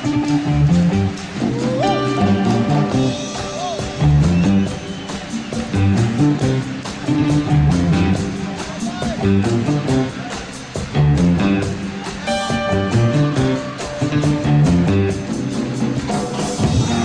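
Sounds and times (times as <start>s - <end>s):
held keyboard chord: 0.0s - 17.0s
live rock band playing: 0.0s - 17.0s.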